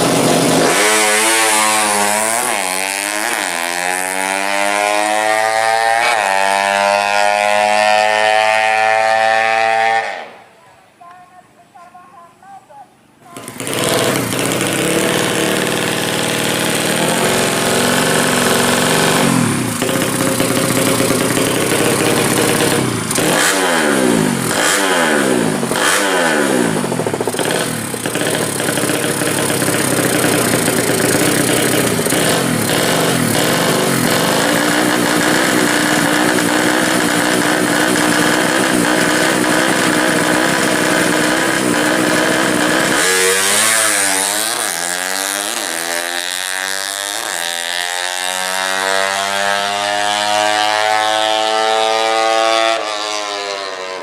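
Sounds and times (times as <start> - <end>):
motorcycle engine revving loud: 0.0 - 10.4, 13.4 - 54.0.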